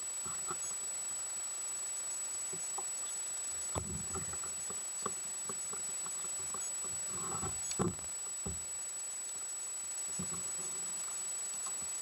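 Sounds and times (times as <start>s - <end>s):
steady high-pitched whine: 0.0s - 12.0s.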